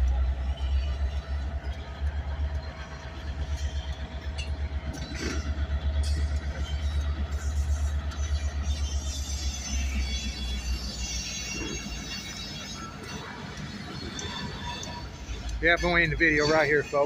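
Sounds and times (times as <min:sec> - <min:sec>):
railcars clanking: 0:00.0 - 0:17.0
train low rumble: 0:00.0 - 0:17.0.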